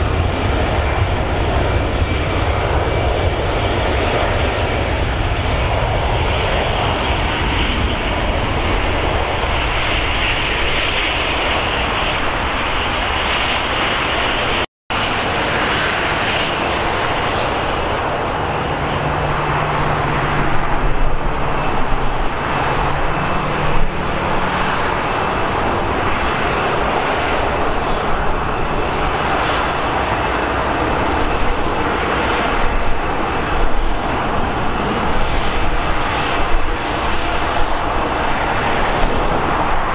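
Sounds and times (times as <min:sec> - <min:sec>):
jet engine rumble and hiss: 0:00.0 - 0:39.9.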